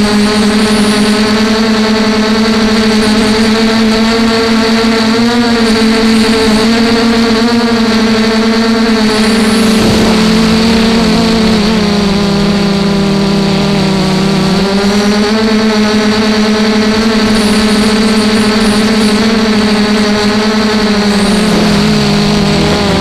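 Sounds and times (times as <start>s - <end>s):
drone propellers whining: 0.0s - 23.0s.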